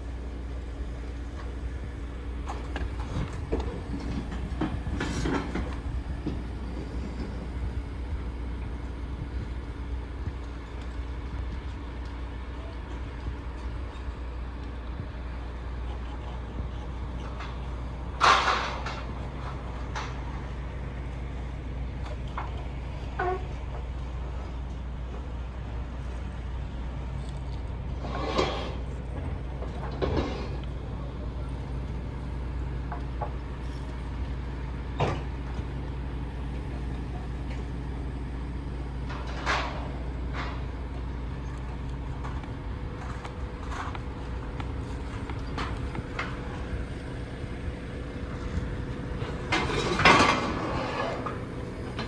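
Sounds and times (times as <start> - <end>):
crane clanks and hisses: 0.0 - 52.0
diesel engine humming: 0.0 - 52.0.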